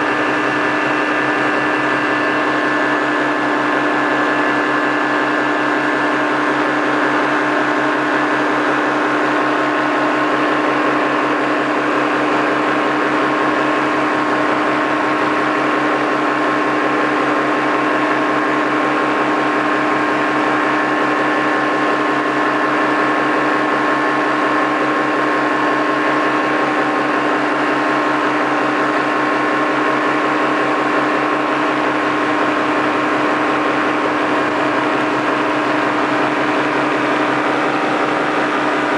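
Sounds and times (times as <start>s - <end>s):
paramotor engine droning: 0.0s - 38.9s.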